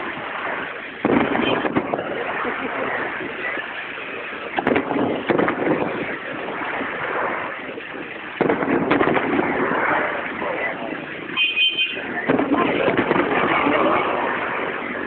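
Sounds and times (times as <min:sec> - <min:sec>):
fireworks bangs: 0:00.0 - 0:15.0
loud background noise: 0:00.0 - 0:15.0.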